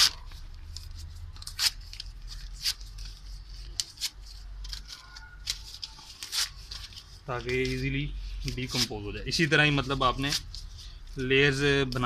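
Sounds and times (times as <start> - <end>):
newspaper tearing: 0.0 - 12.0.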